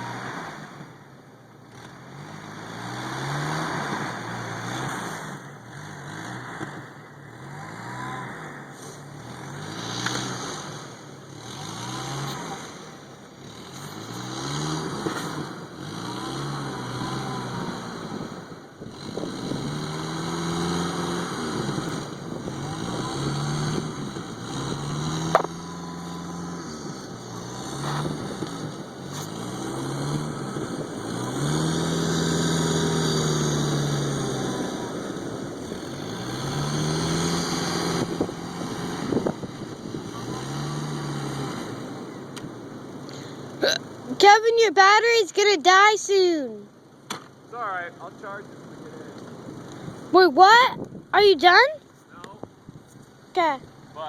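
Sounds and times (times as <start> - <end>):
engine revving: 0.0 - 52.4.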